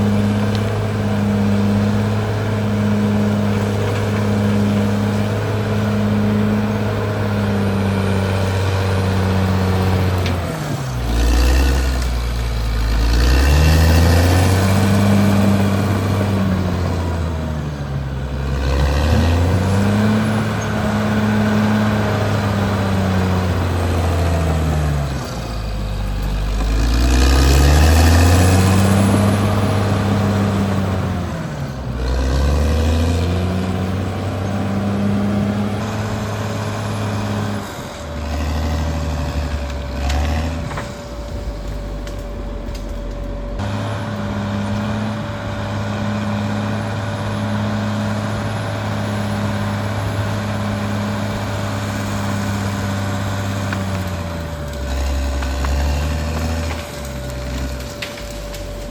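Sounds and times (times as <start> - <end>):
bulldozer diesel engine running hard: 0.0 - 58.9.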